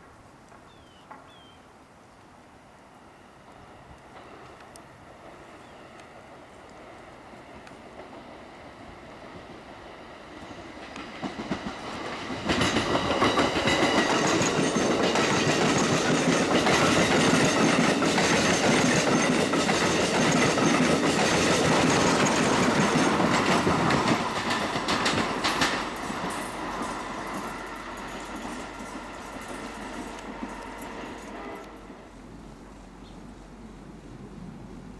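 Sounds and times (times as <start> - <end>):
train wheels clattering on rails: 3.4 - 32.0.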